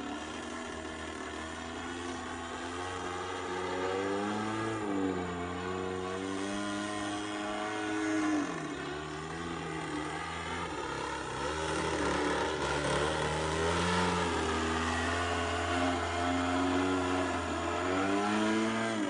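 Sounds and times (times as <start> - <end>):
model plane engine: 0.0 - 19.0.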